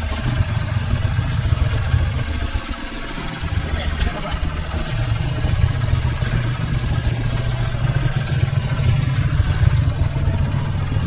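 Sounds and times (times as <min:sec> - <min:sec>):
boat motor droning: 0:00.0 - 0:11.0.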